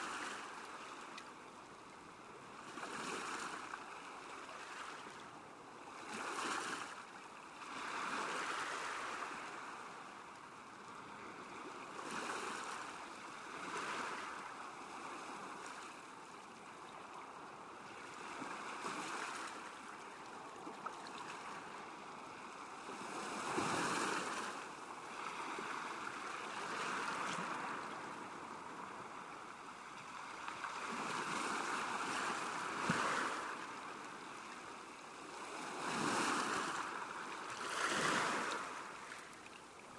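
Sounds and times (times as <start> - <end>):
small waves lapping at shore: 0.0 - 39.9.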